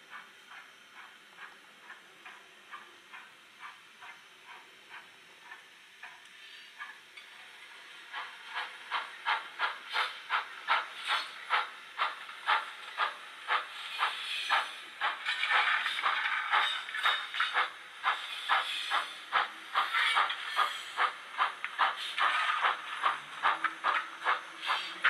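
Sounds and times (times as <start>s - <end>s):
steam locomotive chuffs from speaker: 0.1s - 25.0s.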